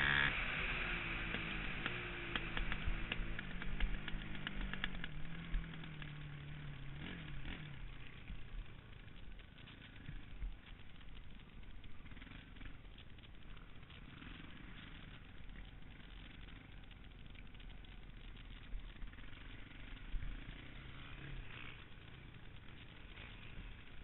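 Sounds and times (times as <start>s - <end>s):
faint motorcycle engine rumble: 0.0s - 24.0s.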